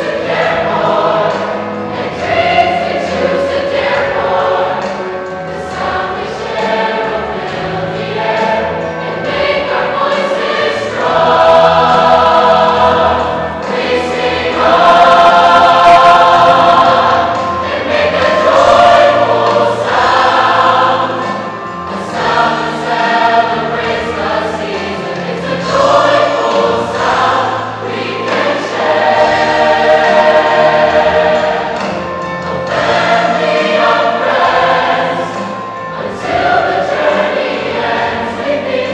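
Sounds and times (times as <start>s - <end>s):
mixed choir singing in harmony: 0.0s - 38.9s.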